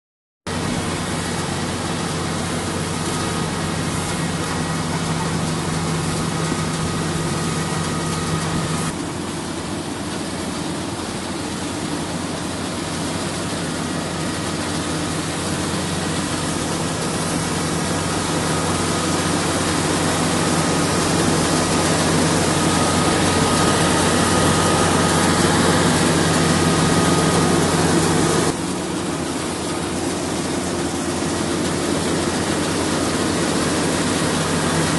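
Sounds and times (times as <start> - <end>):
combine harvester running: 0.5 - 34.9.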